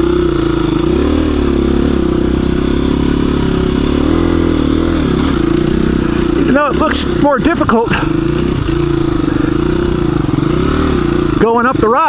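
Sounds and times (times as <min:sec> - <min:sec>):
dirt bike engine under throttle: 0:00.0 - 0:12.0.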